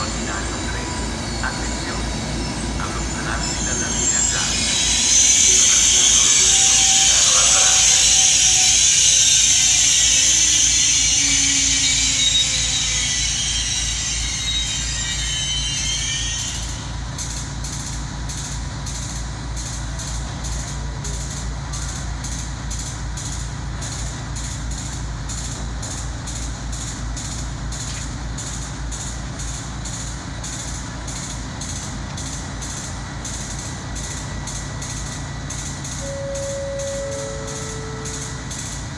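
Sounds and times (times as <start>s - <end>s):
low train rumble: 0.0s - 38.9s
rhythmic clicking of train wheels: 0.0s - 38.9s
steel wheels hissing and squealing: 0.0s - 38.9s.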